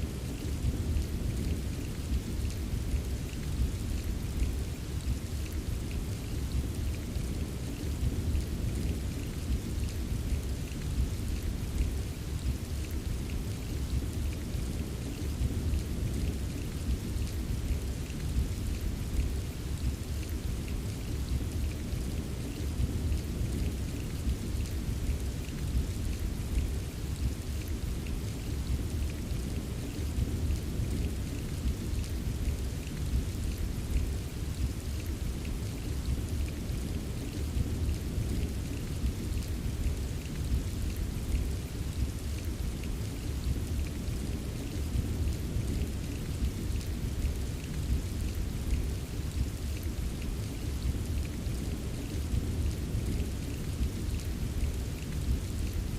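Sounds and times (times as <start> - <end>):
rain drops tapping: 0.0 - 55.9.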